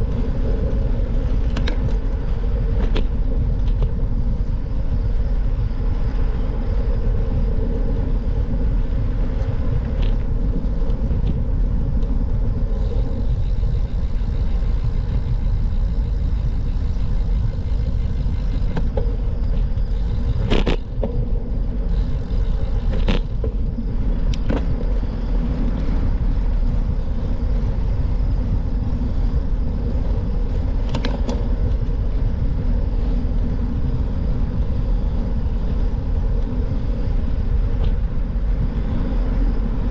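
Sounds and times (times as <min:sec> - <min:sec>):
bicycle tyre noise: 0:00.0 - 0:39.9
wind buffeting microphone: 0:00.0 - 0:39.9.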